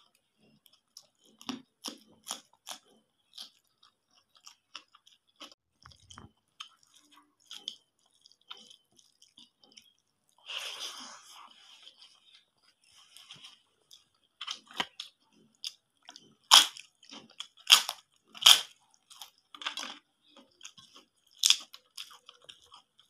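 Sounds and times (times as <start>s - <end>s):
chewing food: 0.0s - 23.0s
squishing food: 0.0s - 23.0s.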